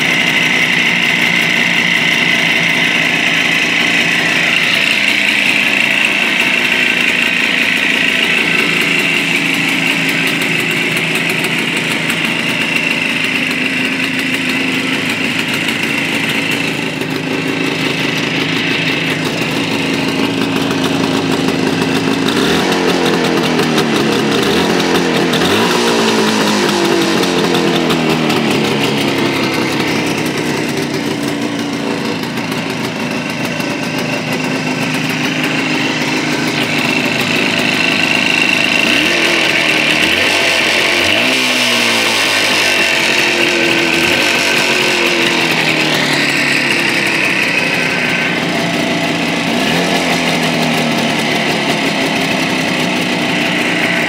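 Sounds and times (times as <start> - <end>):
two-stroke engine idling: 0.0 - 54.0.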